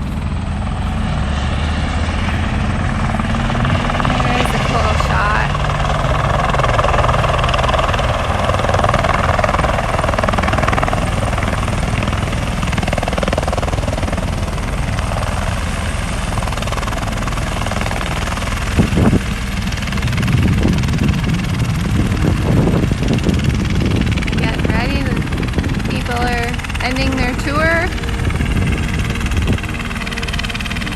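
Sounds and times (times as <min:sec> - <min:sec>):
helicopter rotor and engine: 0:00.0 - 0:30.9.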